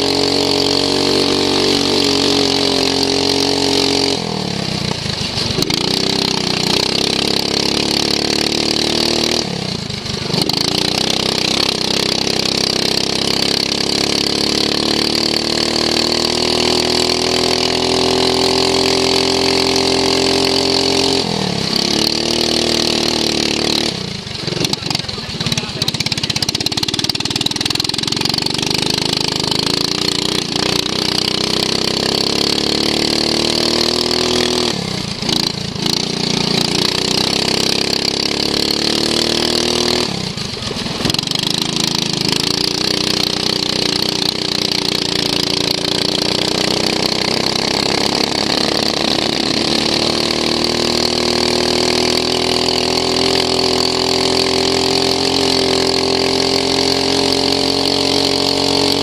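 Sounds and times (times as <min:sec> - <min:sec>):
lawn mower engine at speed: 0:00.0 - 0:59.0.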